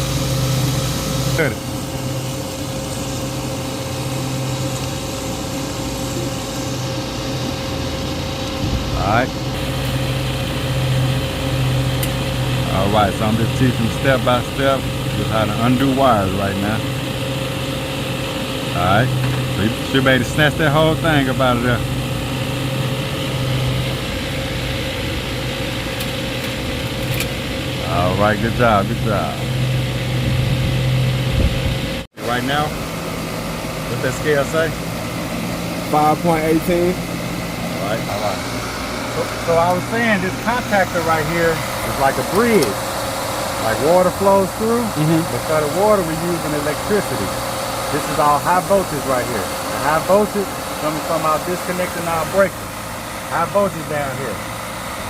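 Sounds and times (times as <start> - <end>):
steady machine drone: 0.0 - 55.0.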